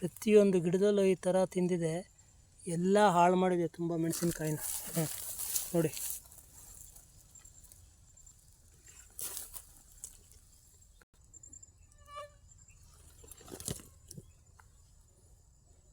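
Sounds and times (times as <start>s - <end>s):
faint outdoor ambience: 0.0s - 15.9s.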